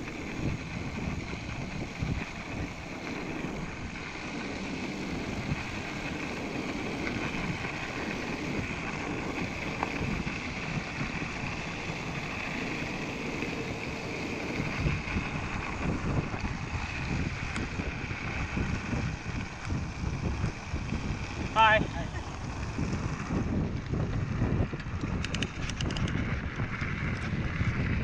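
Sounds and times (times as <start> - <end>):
bike tyres rolling over snow: 0.0 - 28.0
wind buffeting microphone: 0.0 - 28.0.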